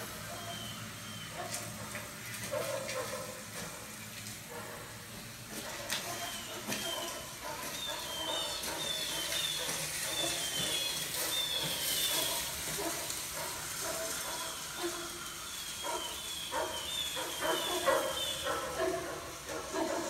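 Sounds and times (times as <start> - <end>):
dogs barking: 0.0 - 20.0.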